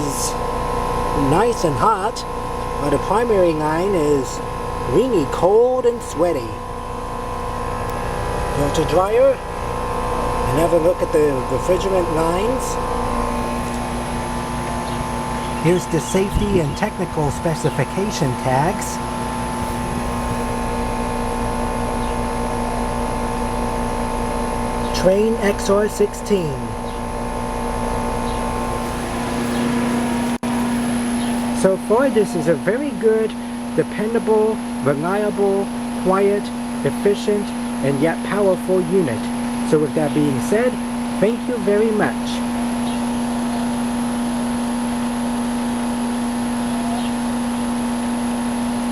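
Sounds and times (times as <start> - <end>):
compressor humming: 0.0 - 48.9
fan air rushing: 0.0 - 48.9
heat pump outdoor unit running: 0.0 - 48.9.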